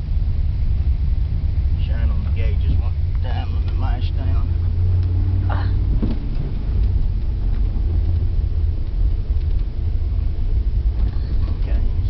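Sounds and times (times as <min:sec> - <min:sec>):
engine and road rumble in cab: 0:00.0 - 0:12.0.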